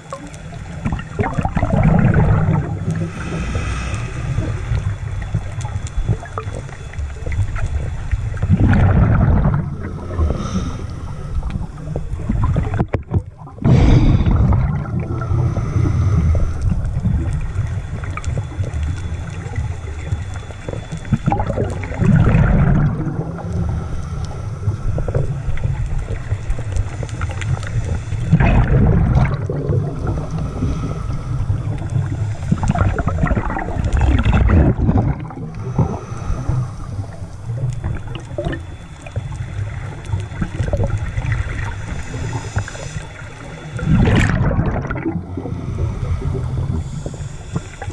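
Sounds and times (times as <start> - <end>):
low underwater rush: 0.0 - 47.9
regulator bubbles surging: 0.0 - 47.9.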